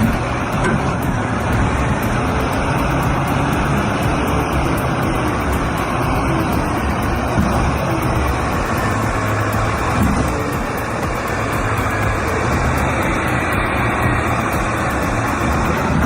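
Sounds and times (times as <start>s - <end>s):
diesel earthmoving machine running: 0.0s - 16.0s.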